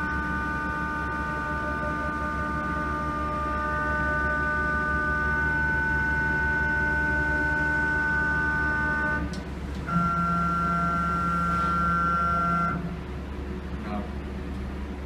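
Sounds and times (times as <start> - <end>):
machine drive motors whining: 0.0 - 14.2
low hum: 0.0 - 15.0.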